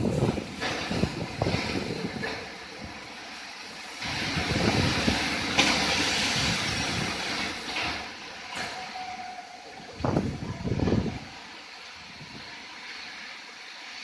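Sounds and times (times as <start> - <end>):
thunder rumbling: 0.0 - 3.1, 4.0 - 12.6
rain: 0.0 - 14.0
wind: 0.0 - 14.0.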